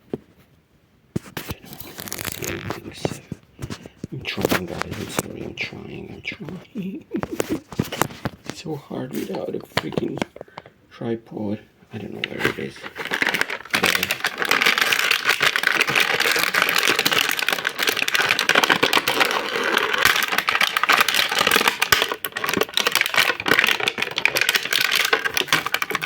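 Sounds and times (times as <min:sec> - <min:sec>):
plastic packaging clicking and crackling: 0:01.2 - 0:10.7, 0:12.0 - 0:26.0.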